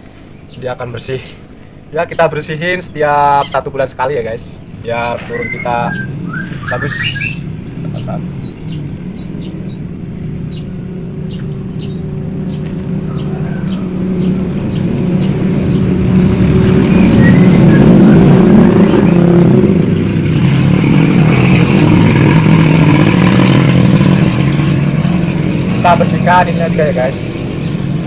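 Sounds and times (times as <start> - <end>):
engine humming: 0.0 - 28.0
bird chirps: 0.2 - 28.0.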